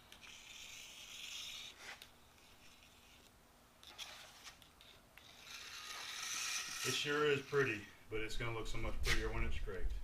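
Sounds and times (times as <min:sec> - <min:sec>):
faint rubbing and scraping: 0:00.0 - 0:10.0.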